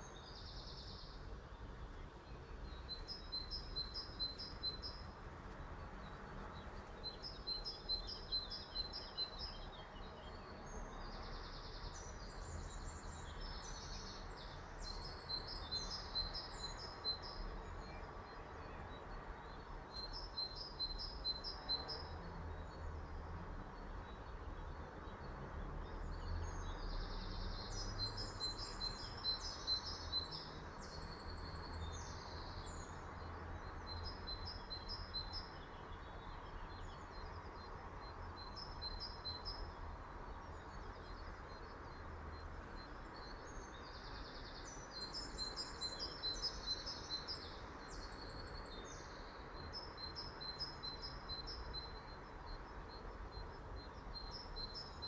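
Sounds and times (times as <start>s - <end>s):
songbird chirps and trills: 0.0s - 55.0s.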